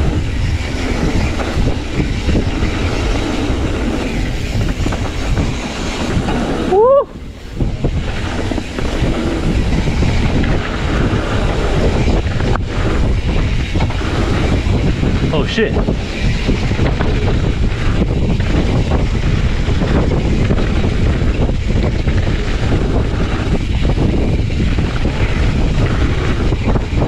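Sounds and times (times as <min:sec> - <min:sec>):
bike tyres rumbling on dirt: 0:00.0 - 0:27.0
wind buffeting microphone: 0:00.0 - 0:27.0.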